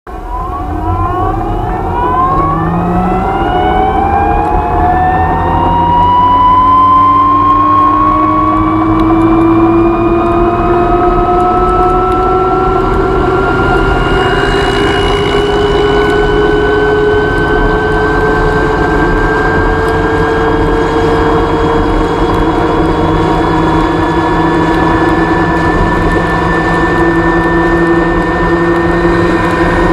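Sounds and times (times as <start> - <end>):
electric scooter drive whine: 0.1 - 29.9.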